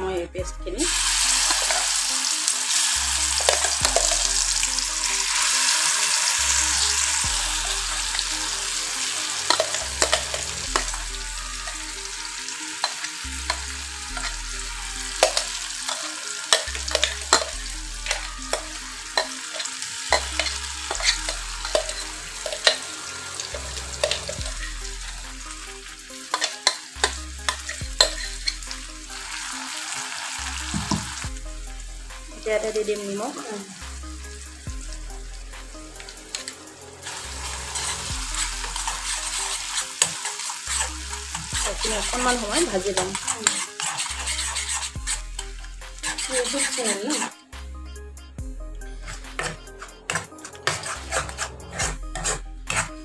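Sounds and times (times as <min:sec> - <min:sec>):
paste sizzling in hot oil: 0:00.8 - 0:47.6, 0:49.0 - 0:53.0
spatula scraping a pan: 0:00.9 - 0:02.1, 0:02.7 - 0:31.2, 0:36.0 - 0:47.5, 0:49.0 - 0:53.0.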